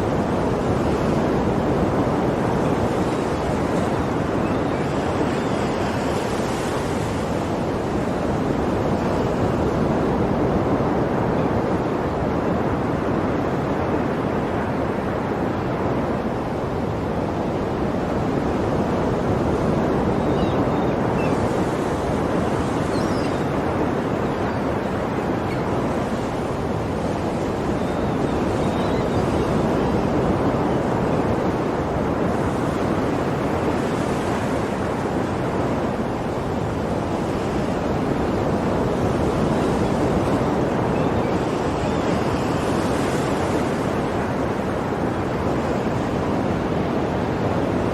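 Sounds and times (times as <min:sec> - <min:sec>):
sea waves surging: 0:00.0 - 0:47.9.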